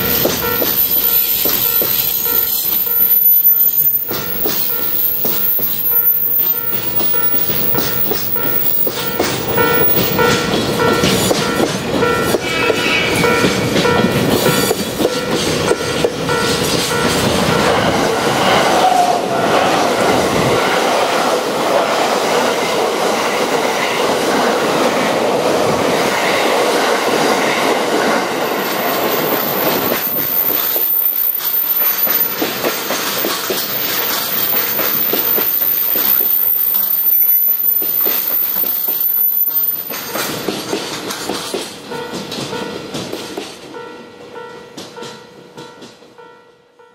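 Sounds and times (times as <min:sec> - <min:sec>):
freight train clattering over rails: 0:00.0 - 0:46.3
electric express train passing: 0:00.0 - 0:46.9.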